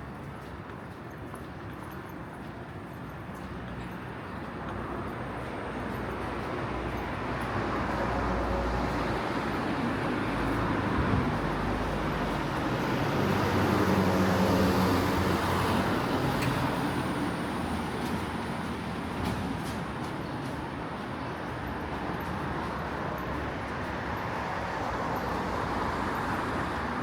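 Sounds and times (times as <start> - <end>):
street traffic: 0.0 - 27.0.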